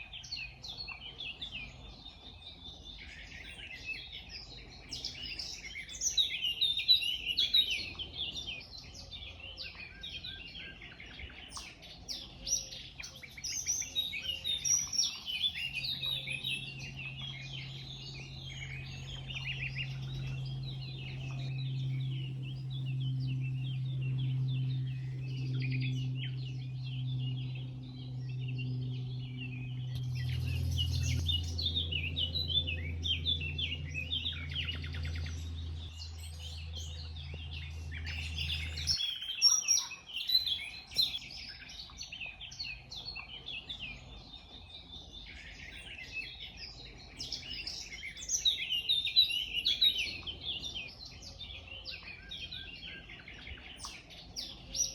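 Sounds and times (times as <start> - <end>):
birds chirping chorus: 0.0 - 54.9
low steady hum: 0.0 - 54.9.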